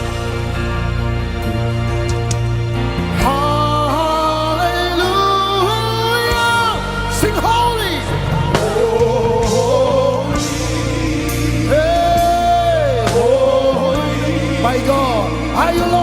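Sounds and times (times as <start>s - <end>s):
band with bass: 0.0s - 16.0s.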